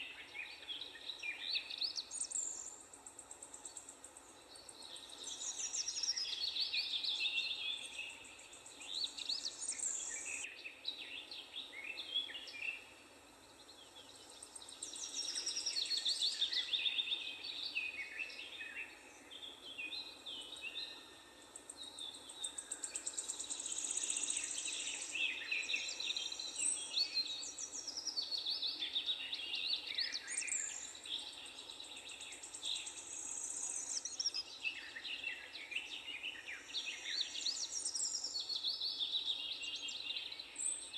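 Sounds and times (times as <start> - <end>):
faint background hiss: 0.0 - 40.9
songbirds singing: 0.0 - 40.9.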